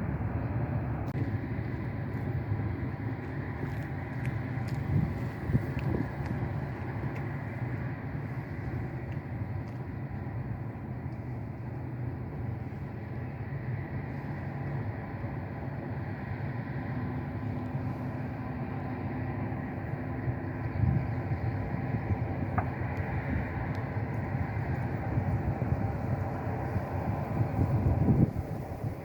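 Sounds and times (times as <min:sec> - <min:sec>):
faint whining tones: 0:00.0 - 0:29.0
low engine rumble: 0:00.0 - 0:29.0
low hum: 0:00.0 - 0:29.0.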